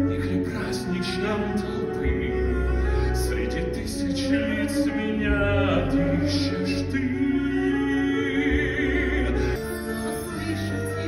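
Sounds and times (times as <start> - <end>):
man singing: 0.0 - 11.0
orchestral backing: 0.0 - 11.0.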